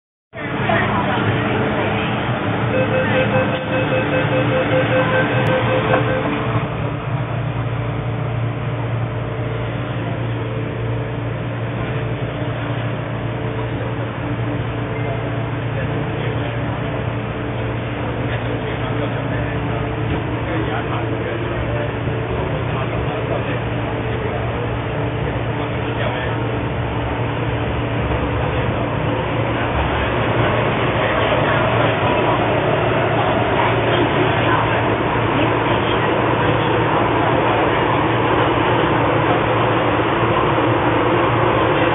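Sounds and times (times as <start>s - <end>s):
train car hum and rumble: 0.3s - 41.9s.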